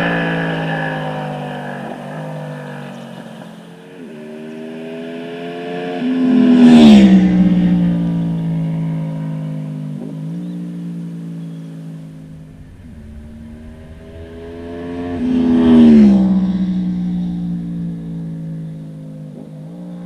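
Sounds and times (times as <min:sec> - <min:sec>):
motorcycle passing by: 0:00.0 - 0:20.0.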